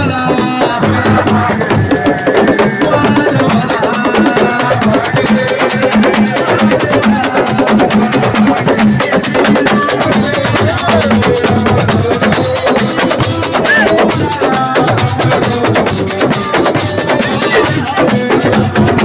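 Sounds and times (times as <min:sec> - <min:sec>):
fast dense drumming: 0:00.0 - 0:19.0
voices singing: 0:00.0 - 0:19.0.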